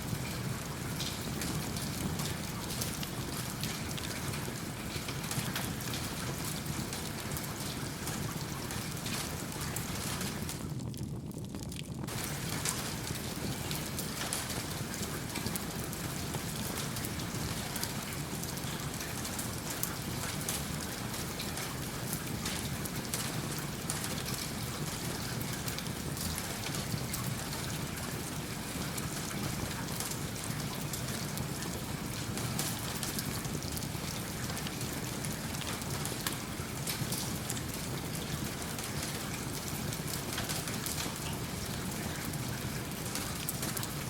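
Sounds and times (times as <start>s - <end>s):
steady rain: 0.0s - 44.0s
wood fire crackling: 0.1s - 44.0s.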